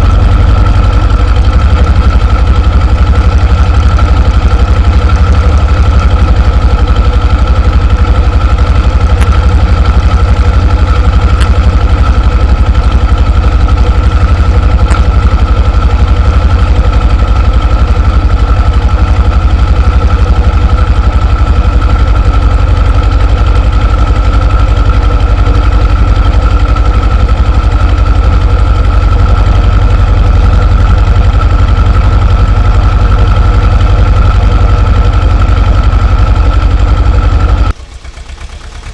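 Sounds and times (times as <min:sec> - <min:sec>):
diesel tractor engine running: 0:00.0 - 0:38.9
rotary tiller whine: 0:00.0 - 0:38.9.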